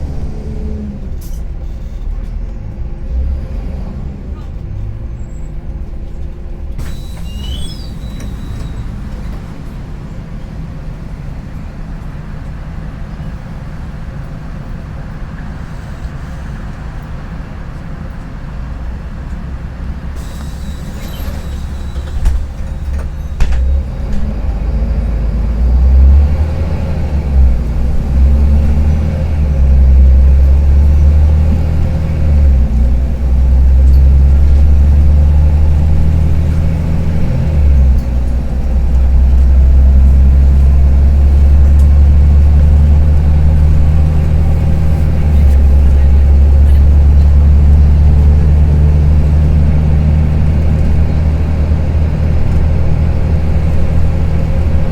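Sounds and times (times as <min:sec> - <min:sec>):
bus diesel engine rattling: 0:00.0 - 0:54.9.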